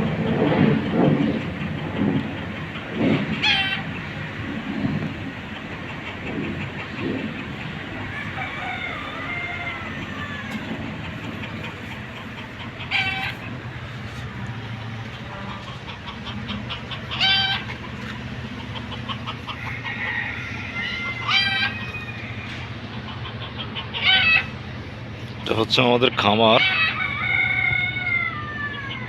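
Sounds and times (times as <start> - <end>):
background rumble and clatter: 0.0 - 29.0
poultry squawking: 2.8 - 4.4, 5.1 - 29.0.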